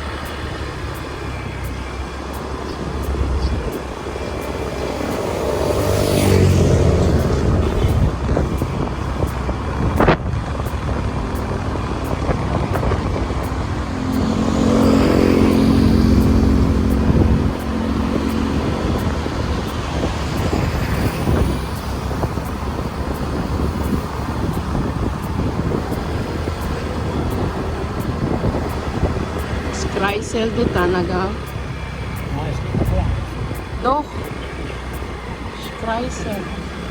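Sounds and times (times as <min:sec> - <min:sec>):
motorbike engine running: 0:00.0 - 0:36.9
road rumble: 0:00.0 - 0:36.9
wind: 0:00.0 - 0:36.9.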